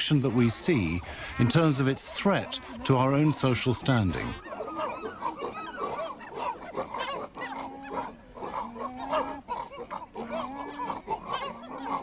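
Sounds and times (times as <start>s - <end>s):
chimpanzees calling: 0.0s - 12.0s.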